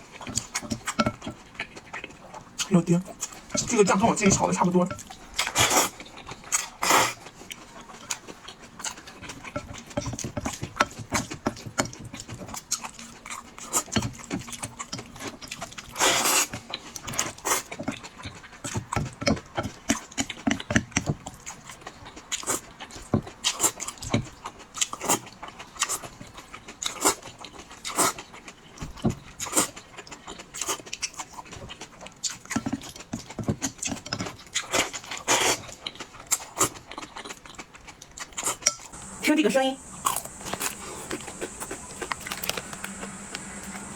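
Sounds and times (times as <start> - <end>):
person chewing noodles: 5.0 - 43.9.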